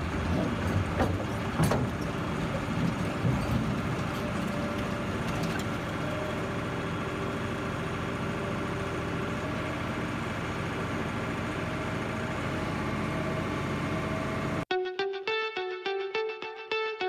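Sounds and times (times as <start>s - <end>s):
heavy machinery engine running: 0.0s - 14.7s.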